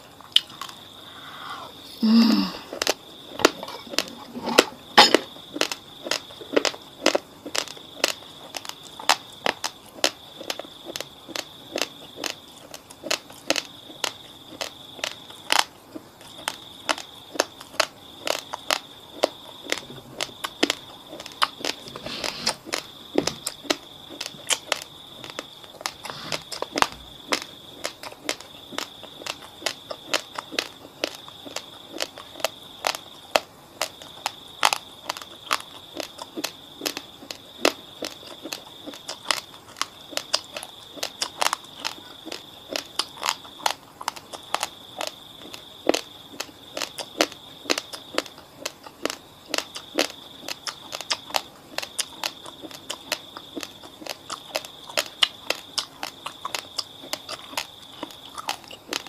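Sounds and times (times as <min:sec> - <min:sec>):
raw rice crunched between teeth: 0:02.7 - 0:15.7, 0:16.3 - 0:59.0.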